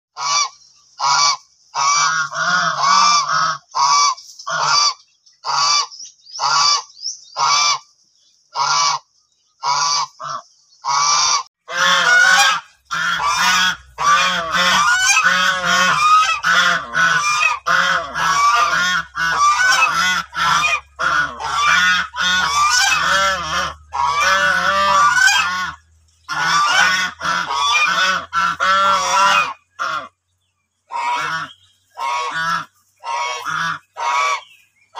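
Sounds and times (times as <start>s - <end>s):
geese honking: 0.1s - 7.9s, 8.5s - 34.9s.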